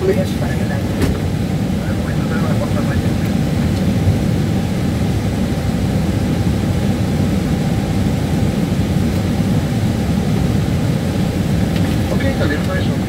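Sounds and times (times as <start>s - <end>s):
jet engines idling in cabin: 0.0s - 13.0s.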